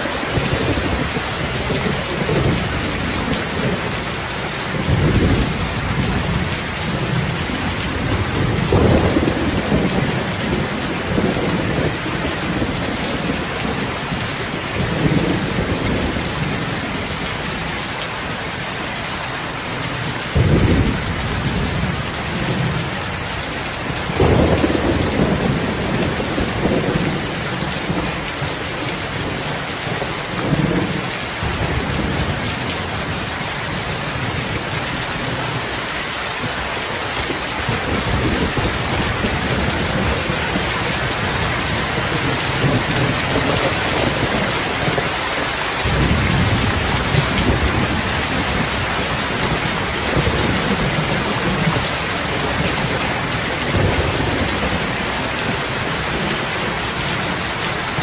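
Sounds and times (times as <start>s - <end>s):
heavy rain: 0.0s - 58.0s
low rolling thunder: 0.2s - 17.7s, 20.3s - 35.6s, 37.3s - 45.2s, 45.8s - 58.0s.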